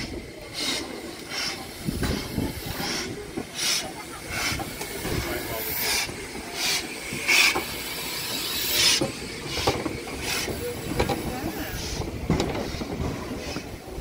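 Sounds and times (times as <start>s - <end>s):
steam hissing in bursts: 0.0s - 14.0s.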